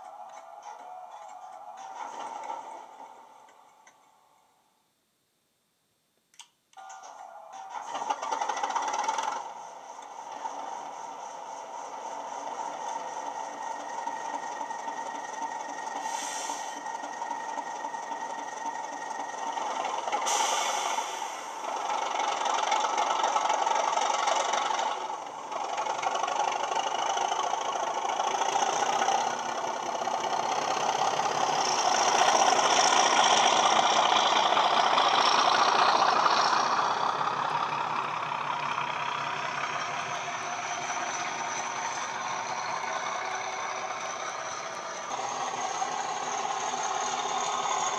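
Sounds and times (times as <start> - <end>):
model diesel engine sound: 0.0 - 4.3, 6.8 - 47.9.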